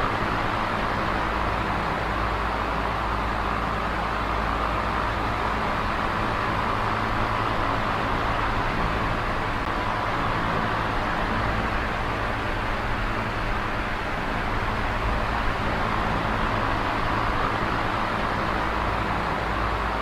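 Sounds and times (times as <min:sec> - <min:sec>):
electric fan air rush: 0:00.0 - 0:20.0.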